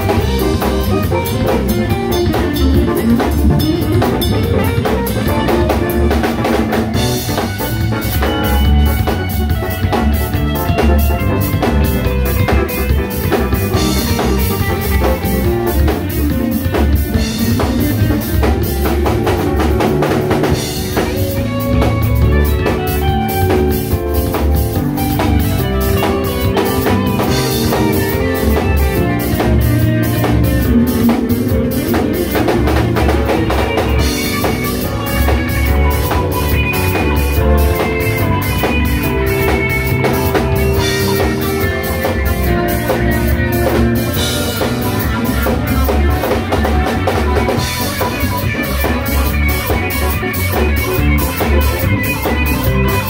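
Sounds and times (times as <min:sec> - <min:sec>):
drum kit steady beat: 0:00.0 - 0:53.0
electric bass: 0:00.0 - 0:53.0
electric guitar: 0:00.0 - 0:53.0
keyboard: 0:00.0 - 0:53.0.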